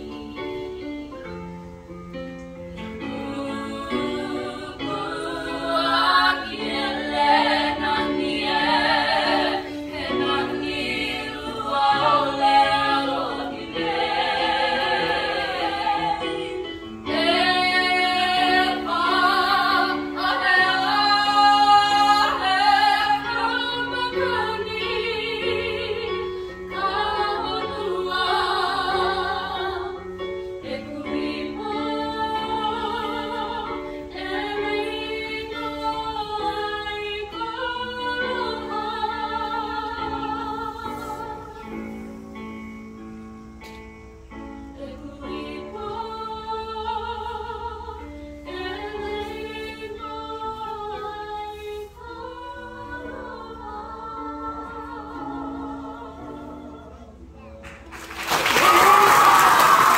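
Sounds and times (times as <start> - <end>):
girls singing in harmony: 0.0 - 59.9.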